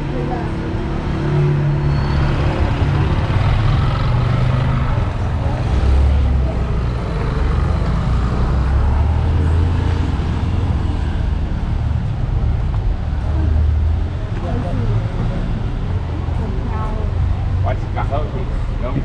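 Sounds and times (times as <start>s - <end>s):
town street noise: 0.0s - 19.0s
vehicle engine running close by: 0.0s - 19.0s.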